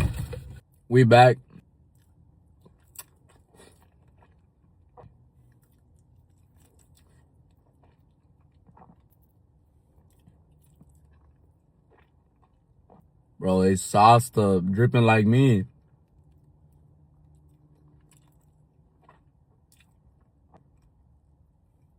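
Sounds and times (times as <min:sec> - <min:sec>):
chewing chicken wings: 0:01.6 - 0:13.4, 0:15.7 - 0:21.9.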